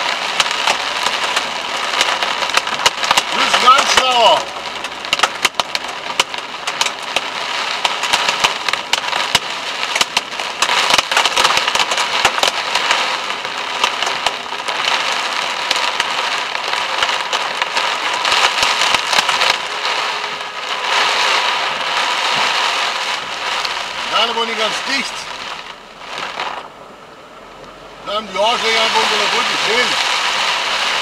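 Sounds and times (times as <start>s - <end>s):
heavy rain on car roof: 0.0s - 31.0s.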